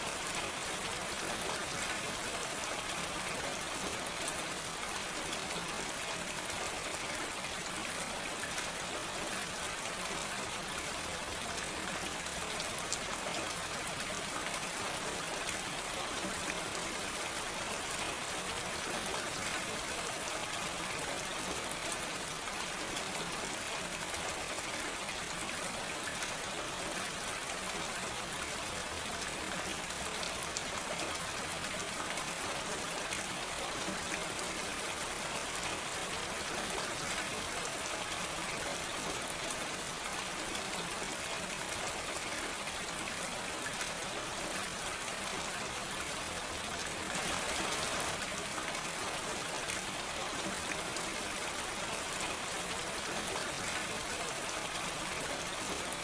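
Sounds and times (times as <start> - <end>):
gentle rain: 0.0 - 56.0.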